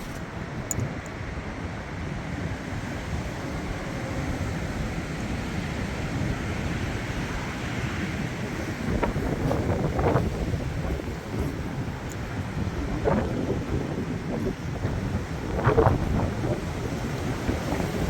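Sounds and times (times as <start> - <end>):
gusty wind blowing: 0.0 - 18.0
wind noise on microphone: 0.0 - 18.0.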